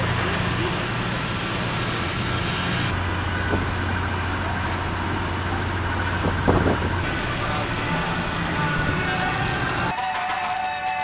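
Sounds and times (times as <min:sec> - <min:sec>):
low engine hum: 0:00.0 - 0:10.0
traffic noise: 0:00.0 - 0:10.0.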